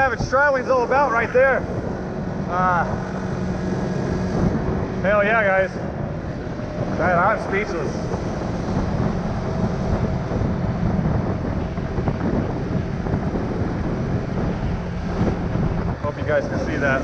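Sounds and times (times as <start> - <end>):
motorbike engine: 0.0 - 17.0
road noise: 0.0 - 17.0
wind rumble on microphone: 0.0 - 17.0.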